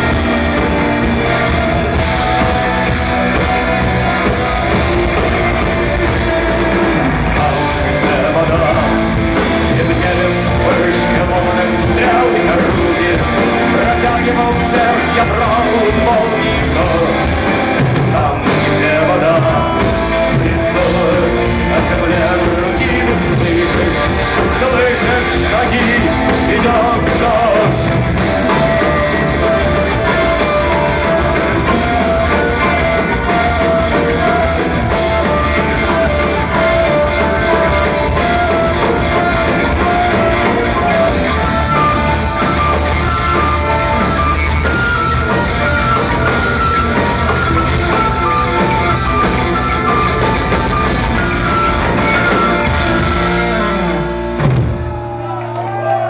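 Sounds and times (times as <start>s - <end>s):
drum kit: 0.0s - 55.9s
live rock band playing: 0.0s - 56.0s.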